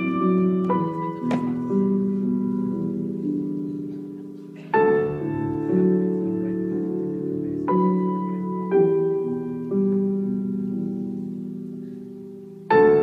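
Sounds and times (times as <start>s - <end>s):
slow instrumental dance music: 0.0s - 13.0s.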